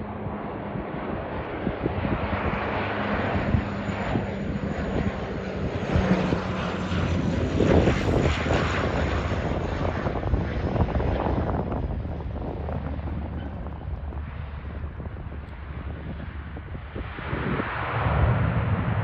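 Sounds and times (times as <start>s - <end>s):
turboprop plane droning overhead: 0.0s - 19.0s.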